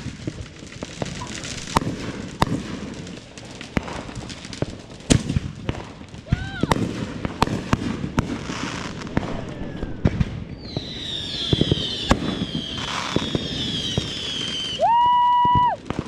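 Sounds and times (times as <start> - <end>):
whistling firework: 0.0 - 3.1, 3.7 - 16.0
firework bangs and pops: 0.0 - 16.0.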